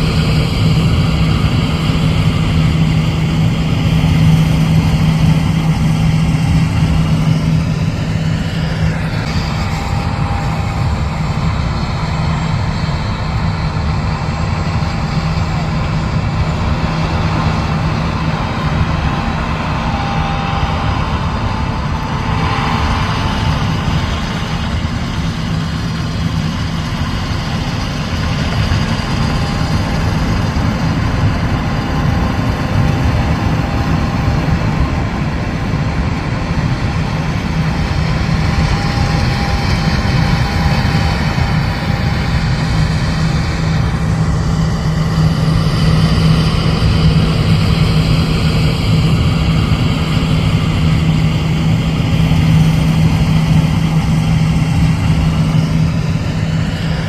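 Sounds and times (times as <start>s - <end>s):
diesel farm machinery droning: 0.0s - 57.0s.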